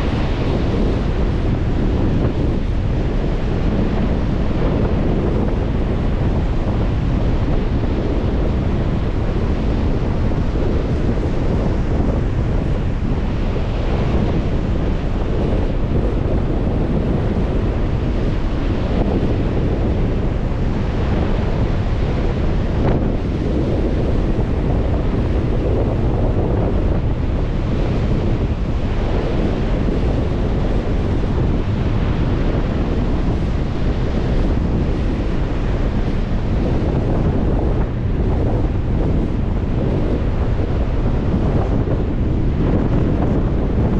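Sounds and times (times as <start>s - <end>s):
waves breaking on shore: 0.0s - 43.9s
wind buffeting microphone: 0.0s - 43.9s.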